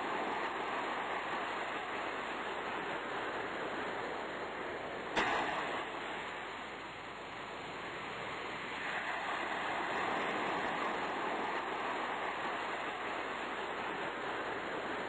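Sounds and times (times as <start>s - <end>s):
waves rushing: 0.0s - 15.0s.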